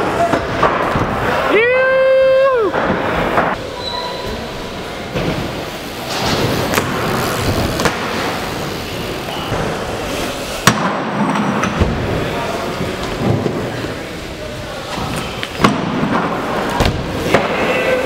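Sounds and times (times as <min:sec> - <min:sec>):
bike tyres rolling on ramps: 0:00.0 - 0:18.0.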